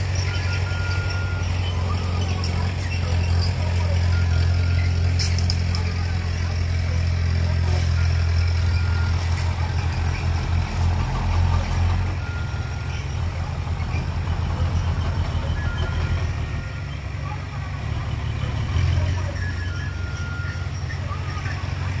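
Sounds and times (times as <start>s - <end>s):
dump truck diesel engine drone: 0.0s - 22.0s.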